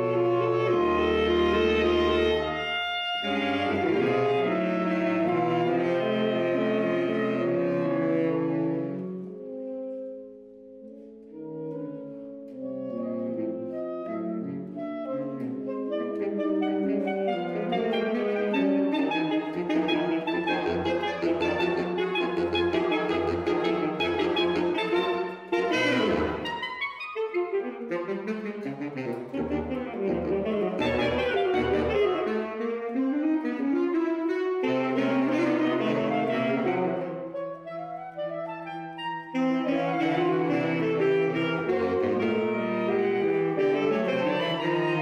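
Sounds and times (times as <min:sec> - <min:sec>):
saxophone quartet playing: 0:00.0 - 0:45.0.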